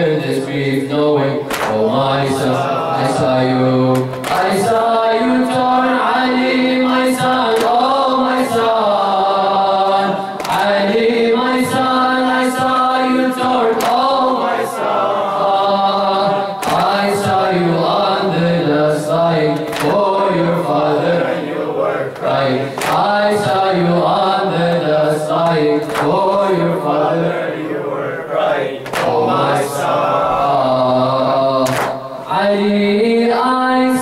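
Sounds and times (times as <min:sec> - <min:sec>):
man chanting a lament: 0:00.0 - 0:34.0.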